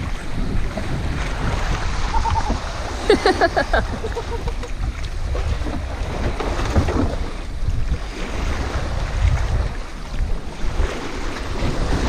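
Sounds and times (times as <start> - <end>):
small waves washing onto shore: 0.0 - 12.0
wind buffeting microphone: 0.0 - 12.0.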